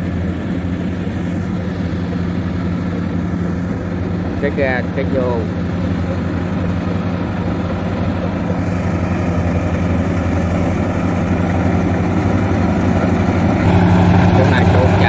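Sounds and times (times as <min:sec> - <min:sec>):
harvester engines droning: 0:00.0 - 0:15.0.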